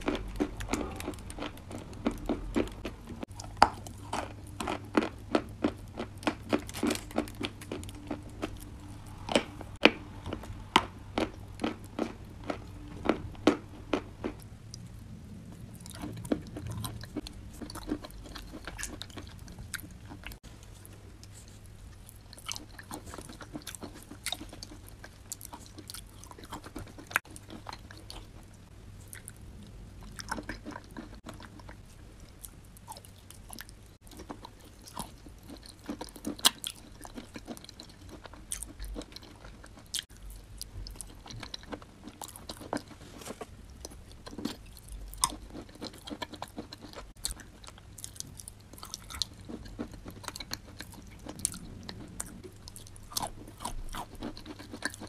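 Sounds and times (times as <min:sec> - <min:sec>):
chewing and crunching chalk: 0:00.0 - 0:55.0.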